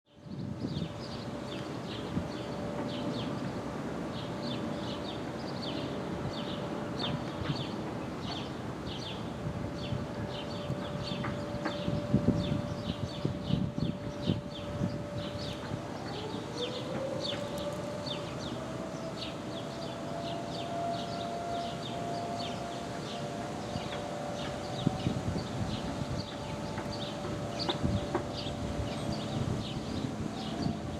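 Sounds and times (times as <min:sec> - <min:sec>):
steady warning siren: 0:00.1 - 0:30.9
birds chirping: 0:00.6 - 0:30.9.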